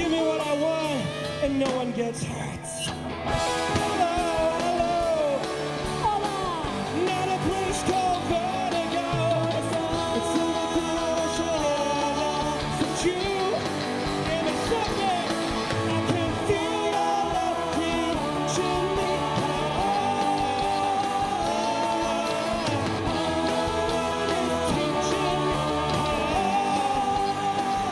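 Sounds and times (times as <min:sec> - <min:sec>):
drums: 0:00.0 - 0:27.9
electric guitar: 0:00.0 - 0:27.9
voices singing held notes: 0:03.3 - 0:27.9.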